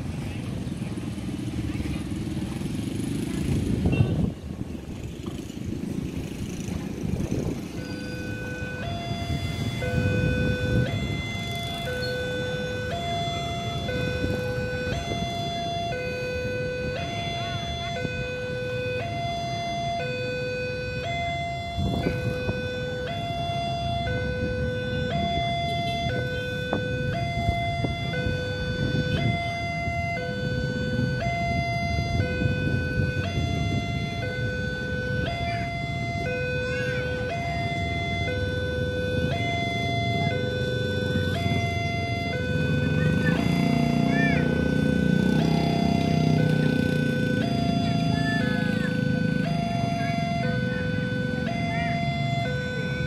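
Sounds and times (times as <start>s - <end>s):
vehicle engine rumbling: 0.0s - 53.0s
two-tone warning siren: 1.3s - 53.0s.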